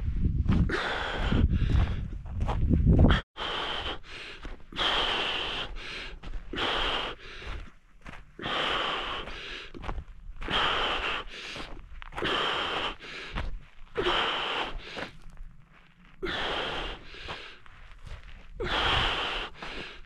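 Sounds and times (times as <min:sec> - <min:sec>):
man breathing hard: 0:00.6 - 0:02.2, 0:03.1 - 0:20.0.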